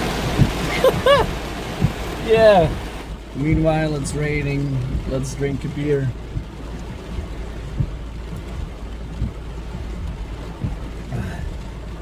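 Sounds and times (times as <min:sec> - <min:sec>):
wind buffeting microphone: 0:00.0 - 0:11.8
rain falling: 0:00.0 - 0:12.0.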